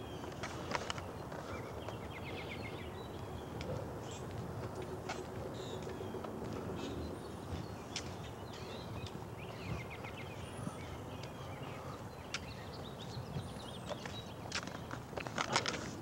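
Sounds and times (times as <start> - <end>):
birds chirping and calling: 0.0 - 15.7.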